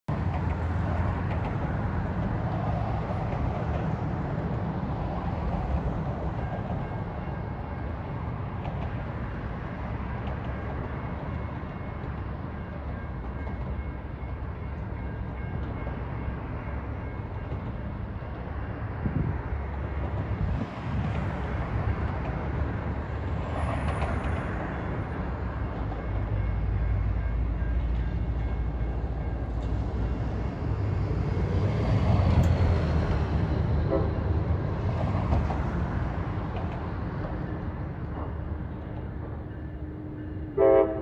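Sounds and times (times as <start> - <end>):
diesel locomotives rumbling: 0.1 - 41.0.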